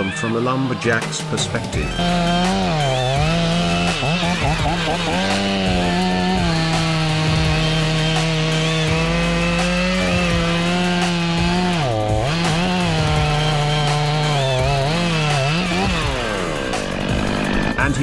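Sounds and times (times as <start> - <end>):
chainsaw cutting wood: 0.7 - 18.0.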